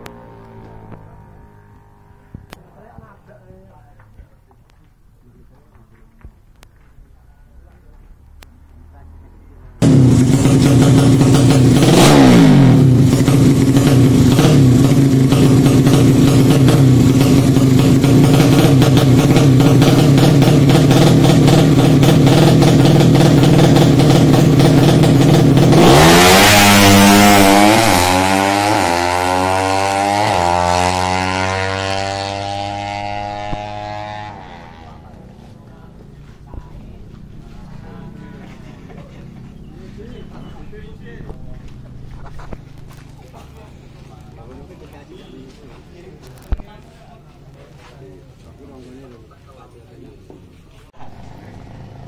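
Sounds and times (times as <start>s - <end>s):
motorcycle engine revving: 0.0s - 3.0s, 8.6s - 46.6s, 51.0s - 52.0s.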